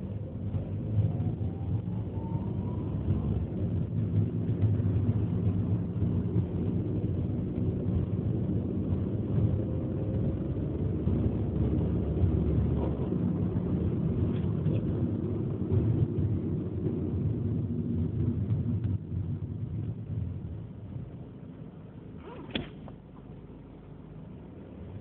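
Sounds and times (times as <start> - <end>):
car engine running: 0.0 - 25.0
faint rising whine: 0.0 - 25.0.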